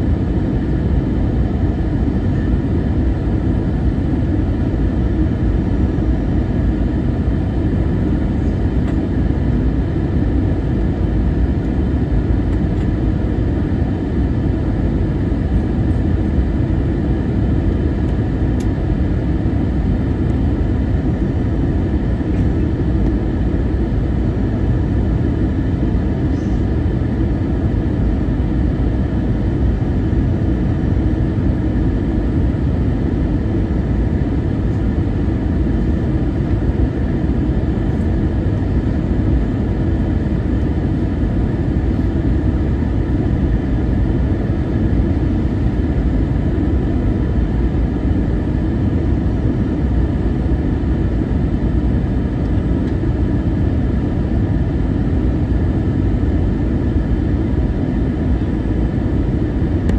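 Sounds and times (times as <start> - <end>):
airplane engines rumbling: 0.0 - 59.9.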